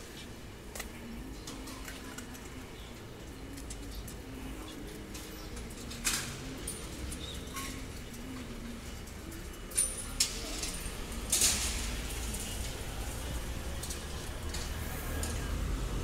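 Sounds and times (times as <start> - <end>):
steady low street rumble: 0.0 - 16.0.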